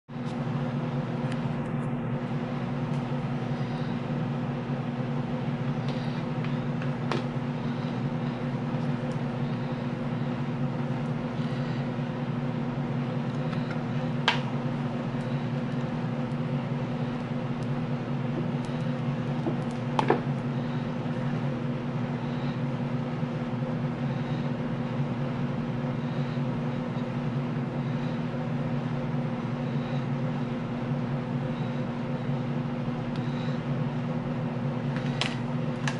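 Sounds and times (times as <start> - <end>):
low machine hum: 0.1 - 35.9.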